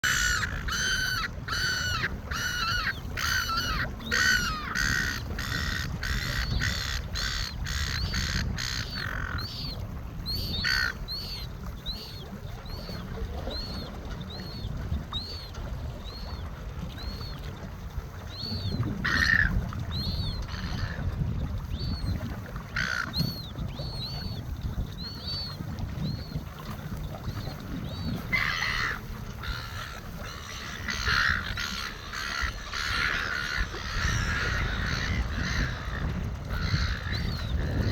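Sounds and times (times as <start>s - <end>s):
gulls calling: 0.0s - 21.1s, 21.7s - 37.9s.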